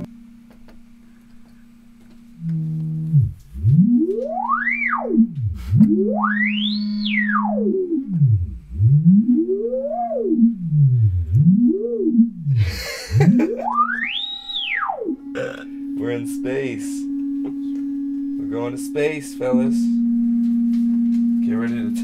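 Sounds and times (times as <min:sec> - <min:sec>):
synthesizer tone sweeping in pitch: 0:00.0 - 0:00.2, 0:02.4 - 0:22.0
low drone: 0:02.4 - 0:22.0.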